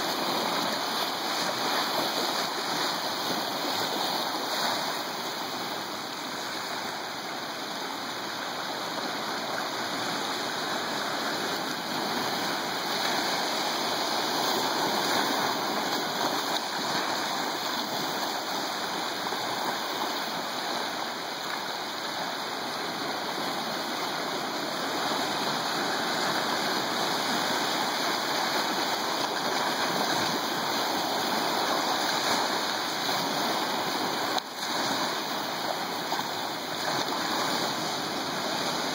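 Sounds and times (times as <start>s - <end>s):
ocean surf washing over rocks: 0.0s - 38.9s.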